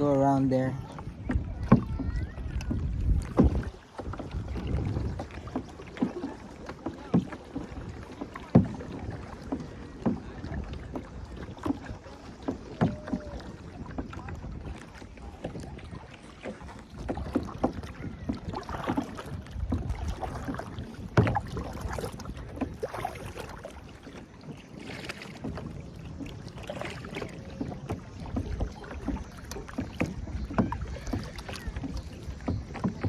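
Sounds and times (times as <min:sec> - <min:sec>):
wind rumble on microphone: 0:00.0 - 0:23.8, 0:25.0 - 0:33.0
paddle knocking against hull: 0:00.0 - 0:33.0
paddle splashing water: 0:00.0 - 0:33.0.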